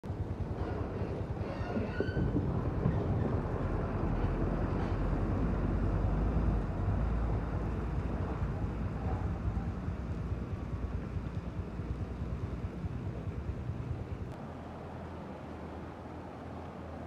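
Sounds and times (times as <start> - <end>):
wind rumble on microphone: 0.1 - 14.4.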